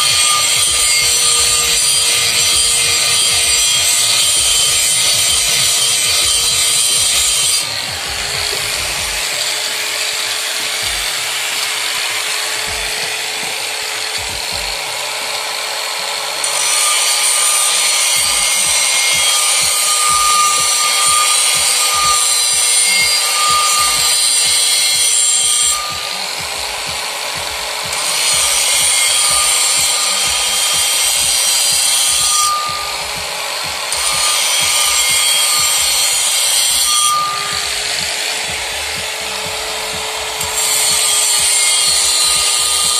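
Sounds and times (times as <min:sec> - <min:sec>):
wire brush grinder scrubbing metal: 0:00.0 - 0:42.9.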